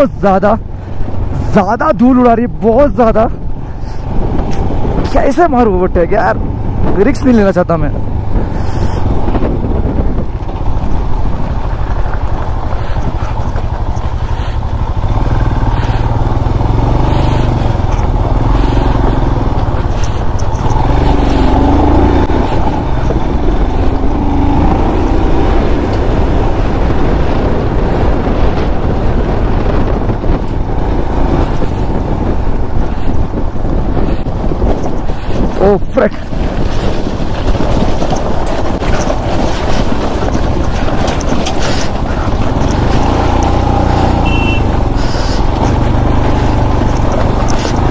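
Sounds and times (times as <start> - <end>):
motorcycle engine running: 0.0 - 47.9
wind rushing over microphone: 0.0 - 47.9.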